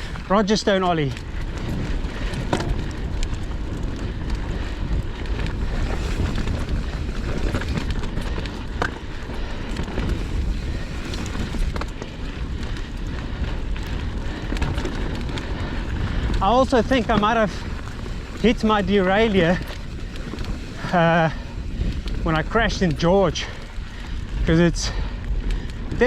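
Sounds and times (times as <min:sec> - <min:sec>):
bike clicks and rattles: 0:00.0 - 0:26.0
tyres rolling over dirt: 0:00.0 - 0:26.0
wind noise on microphone: 0:00.0 - 0:26.0.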